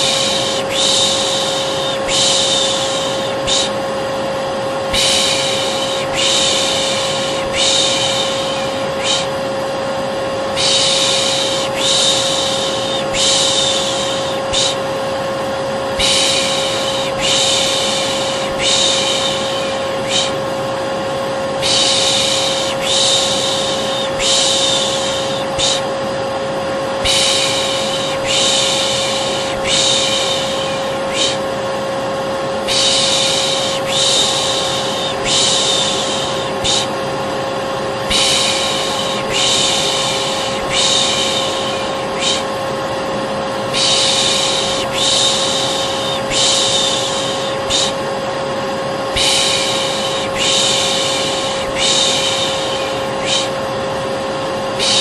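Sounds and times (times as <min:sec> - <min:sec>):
person shushing: 0:00.0 - 0:03.8, 0:04.9 - 0:09.4, 0:10.5 - 0:14.9, 0:15.9 - 0:20.4, 0:21.6 - 0:26.0, 0:27.0 - 0:31.7, 0:32.5 - 0:37.0, 0:38.0 - 0:42.6, 0:43.7 - 0:48.1, 0:49.1 - 0:53.7, 0:54.7 - 0:55.0
vacuum cleaner running: 0:00.0 - 0:55.0.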